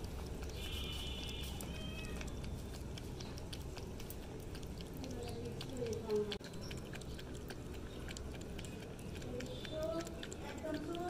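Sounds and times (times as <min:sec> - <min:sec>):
cat lapping milk: 0:00.0 - 0:11.0.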